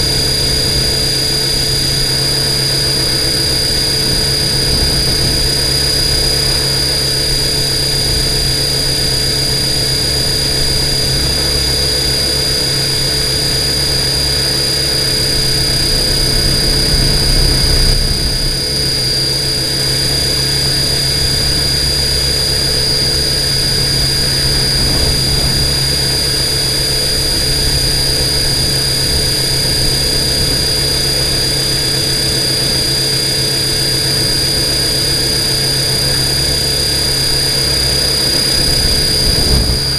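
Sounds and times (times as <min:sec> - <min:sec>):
drone rotors whining: 0:00.0 - 0:39.9.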